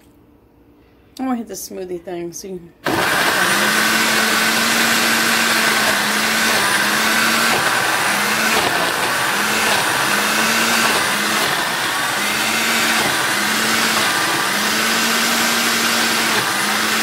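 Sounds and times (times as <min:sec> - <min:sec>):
blender motor whirring: 0:02.8 - 0:17.0.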